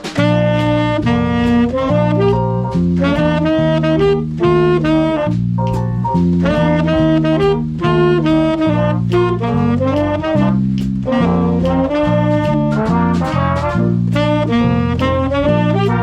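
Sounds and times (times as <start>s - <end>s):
saxophone section: 0.0s - 16.0s
swing big band playing: 0.0s - 16.0s.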